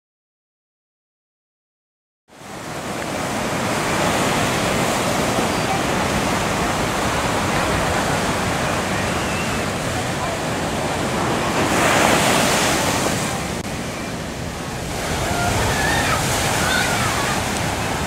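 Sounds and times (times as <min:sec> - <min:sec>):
surf breaking on rocks: 0:02.5 - 0:18.0.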